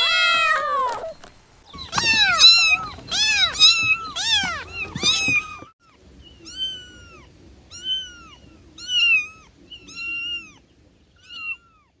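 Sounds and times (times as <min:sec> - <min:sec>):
cat meowing: 0:00.0 - 0:01.2, 0:01.8 - 0:05.7, 0:06.4 - 0:10.6, 0:11.2 - 0:11.9.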